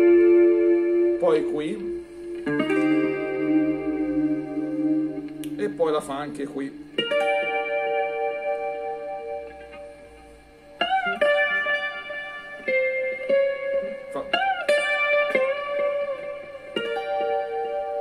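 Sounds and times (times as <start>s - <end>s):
clean electric guitar melody: 0.0s - 18.0s.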